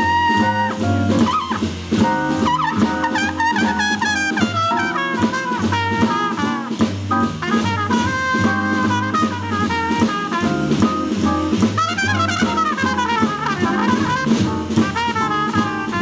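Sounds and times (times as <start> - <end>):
drums: 0.0 - 16.0
jazz trumpet solo: 0.0 - 16.0
upright bass: 0.0 - 16.0.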